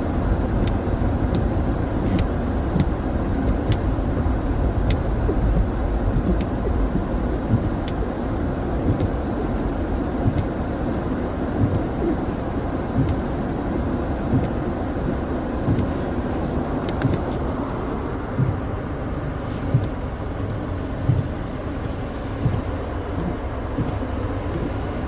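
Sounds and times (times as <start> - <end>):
car road and engine rumble: 0.0 - 25.0
soft low thumps: 0.0 - 25.0.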